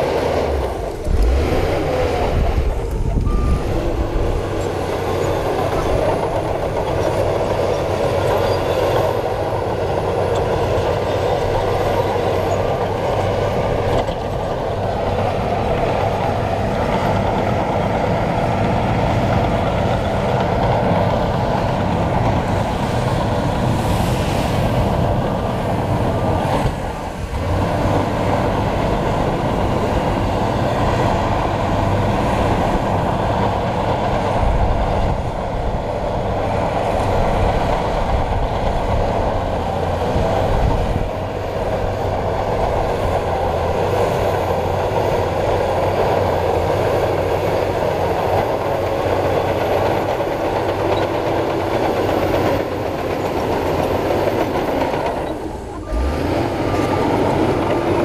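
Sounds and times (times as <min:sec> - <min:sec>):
bulldozer diesel engine running: 0:00.0 - 0:58.0
steel tracks clattering: 0:02.6 - 0:58.0.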